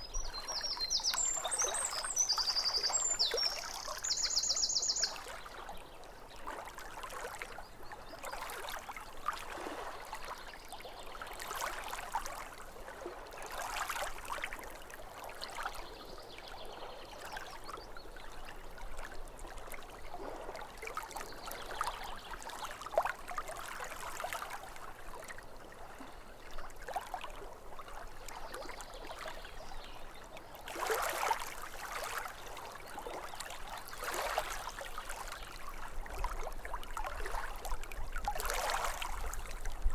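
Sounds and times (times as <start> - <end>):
small waves lapping on shore: 0.0 - 39.9.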